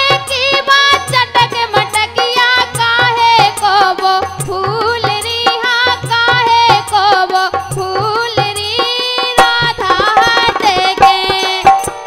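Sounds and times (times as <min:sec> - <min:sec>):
harmonium: 0:00.0 - 0:12.0
woman singing: 0:00.0 - 0:12.0.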